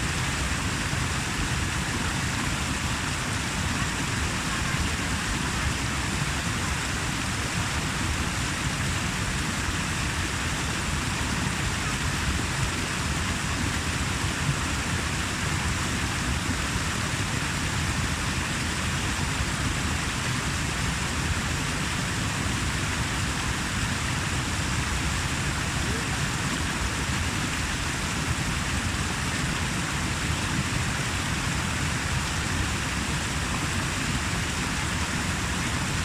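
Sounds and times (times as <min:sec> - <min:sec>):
water rushing: 0:00.0 - 0:36.0.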